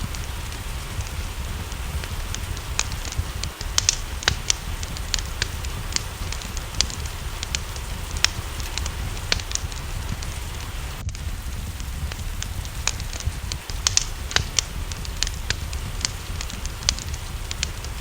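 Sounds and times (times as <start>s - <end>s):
rain hiss: 0.0s - 18.0s
wood fire crackling: 0.0s - 18.0s.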